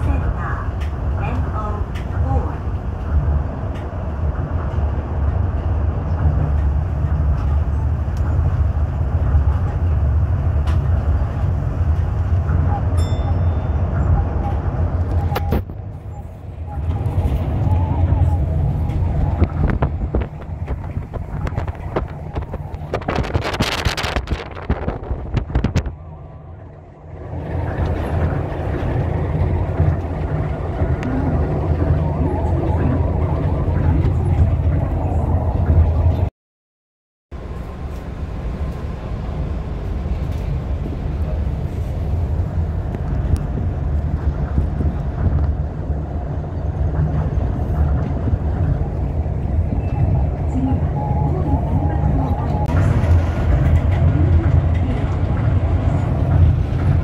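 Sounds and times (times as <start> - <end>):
train rumbling: 0.0 - 36.3, 37.3 - 57.0.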